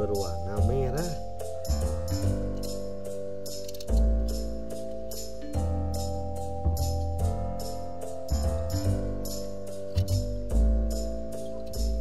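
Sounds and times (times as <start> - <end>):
keyboard chords: 0.0 - 12.0
light ticking beat: 0.0 - 12.0.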